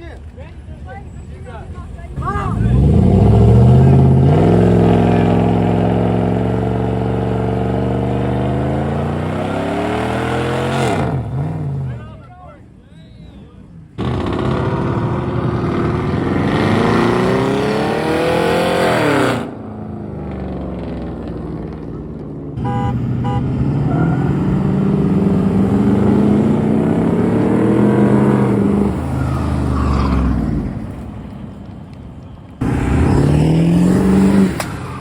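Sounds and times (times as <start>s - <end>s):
truck engines revving: 0.0s - 35.0s.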